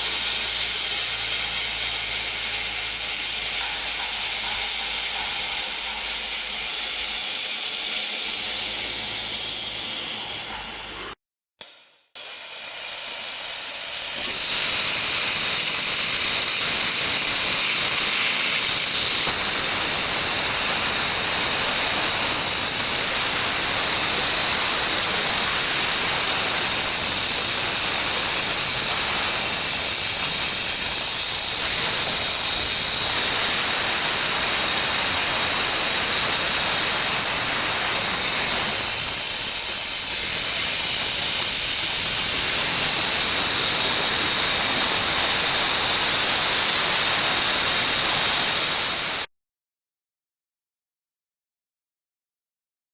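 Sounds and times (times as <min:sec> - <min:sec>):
abrasive blast nozzle hissing: 0:00.0 - 0:49.3.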